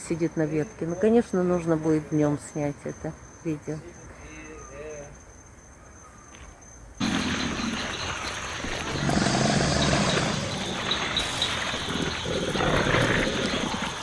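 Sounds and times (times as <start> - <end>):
insect trill and chirps: 0.0 - 14.0.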